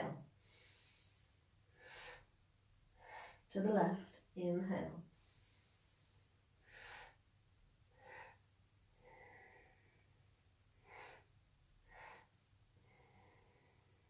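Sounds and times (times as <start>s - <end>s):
woman breathing forcefully: 0.3s - 3.5s, 5.1s - 14.0s.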